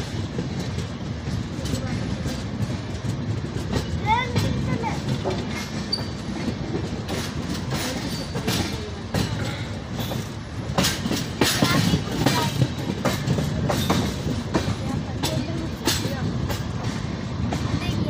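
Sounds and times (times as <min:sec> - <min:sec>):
train coaches rumbling: 0:00.0 - 0:18.0
train wheels clacking over rail joints: 0:00.0 - 0:18.0.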